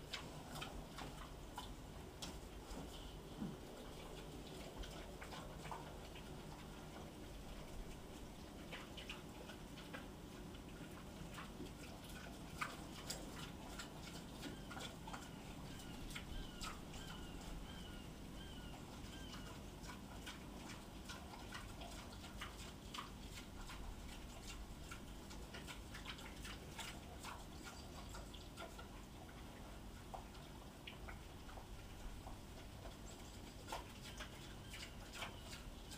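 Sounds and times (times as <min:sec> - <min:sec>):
pigs chewing from metal bowls: 0:00.0 - 0:35.9.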